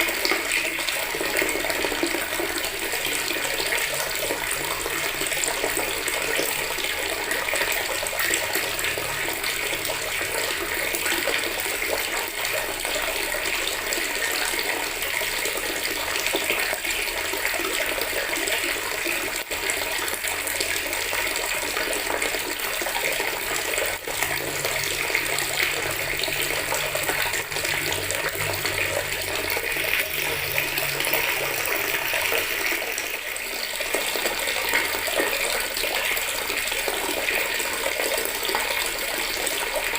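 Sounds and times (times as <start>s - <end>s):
tap water splashing into bucket: 0.0s - 39.9s.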